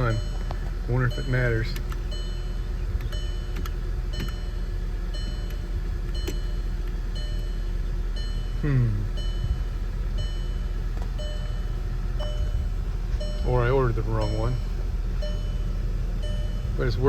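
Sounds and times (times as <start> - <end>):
car warning chime beeping: 0.0 - 17.0
steady low hum: 0.0 - 17.0.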